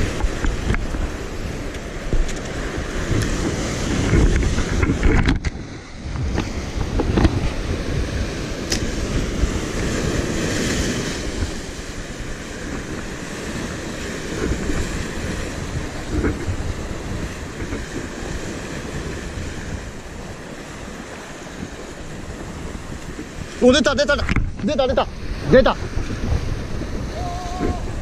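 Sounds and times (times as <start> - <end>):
surf washing over rocks: 0.0 - 28.0
wind buffeting microphone: 0.0 - 28.0.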